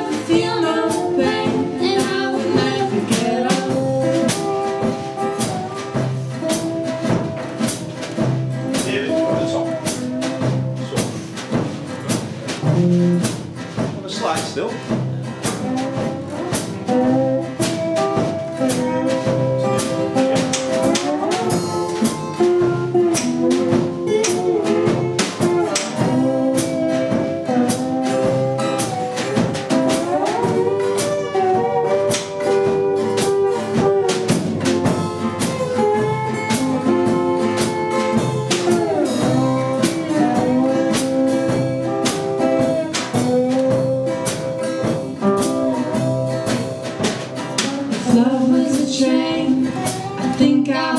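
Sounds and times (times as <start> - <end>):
acoustic band playing: 0.0 - 50.9.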